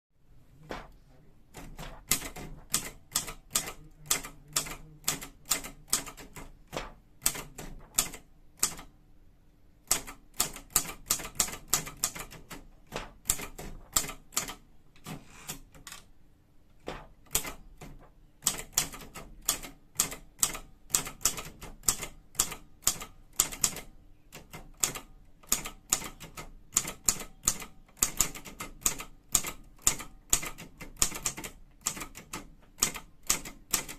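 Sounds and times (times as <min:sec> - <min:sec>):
typewriter keys clacking: 0:01.6 - 0:08.8, 0:09.9 - 0:16.0, 0:17.3 - 0:33.9.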